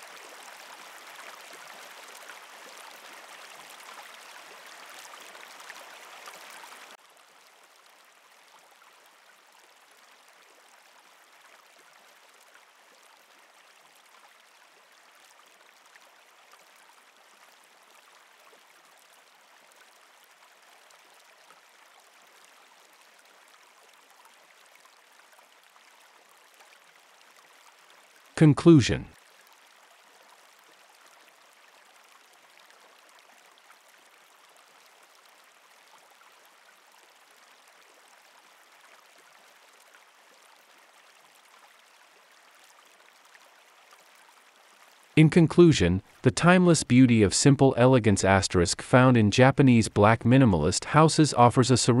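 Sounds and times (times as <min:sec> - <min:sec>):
running water: 0:00.0 - 0:52.0.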